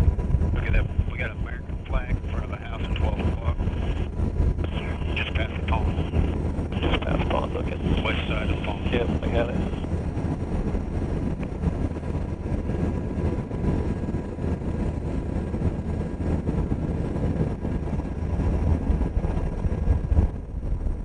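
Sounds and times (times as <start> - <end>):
helicopter rotors and engines: 0.0 - 21.0.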